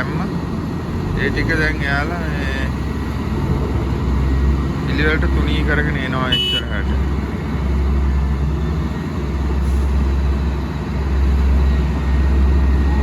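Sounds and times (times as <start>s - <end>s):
diesel paving machinery rumbling: 0.0s - 13.0s.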